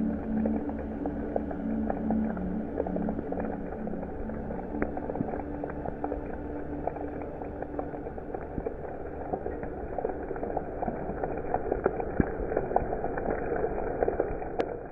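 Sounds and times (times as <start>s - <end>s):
heavy rain on wet ground: 0.0s - 14.9s.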